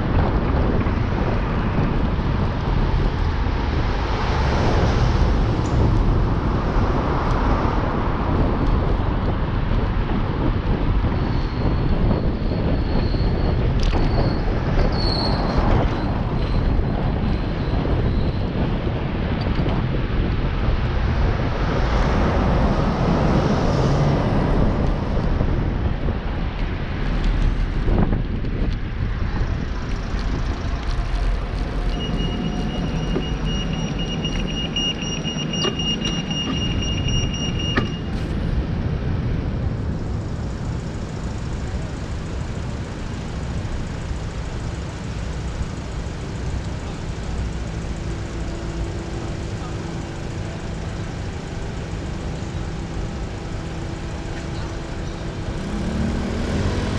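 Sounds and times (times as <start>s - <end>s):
road traffic noise: 0.0s - 56.9s
wind on microphone: 0.0s - 56.9s.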